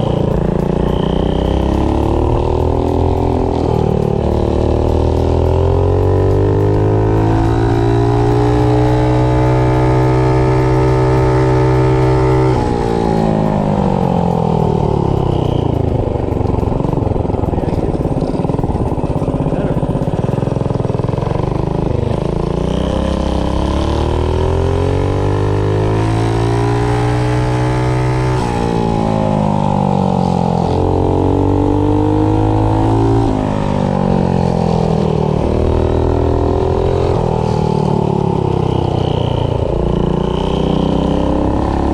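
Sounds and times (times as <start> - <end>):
small engine revving: 0.0 - 41.9.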